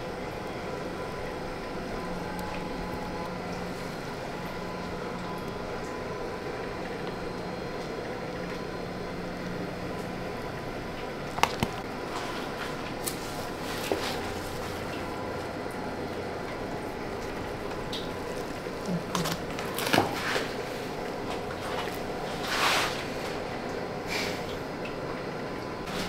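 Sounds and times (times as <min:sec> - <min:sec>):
workshop room hum: 0:00.0 - 0:26.0.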